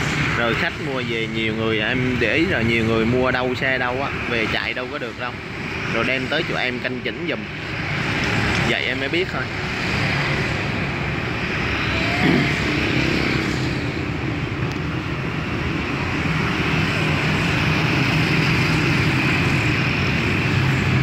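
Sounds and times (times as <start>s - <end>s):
city street hum: 0.0s - 21.0s.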